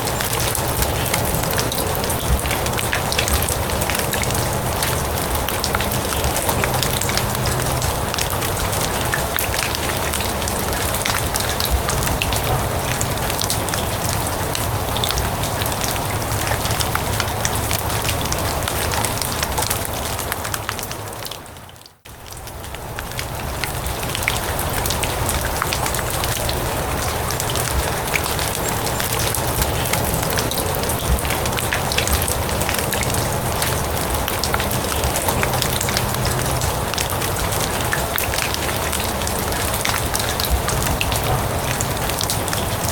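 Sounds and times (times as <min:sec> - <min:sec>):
rain falling on grass: 0:00.0 - 0:42.9.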